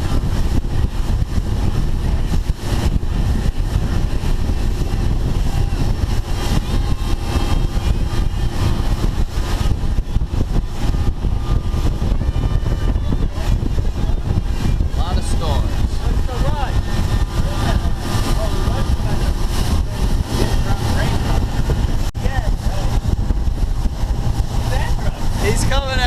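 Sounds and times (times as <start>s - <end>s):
boat engine rumble: 0.0s - 26.0s
rushing air: 0.0s - 26.0s.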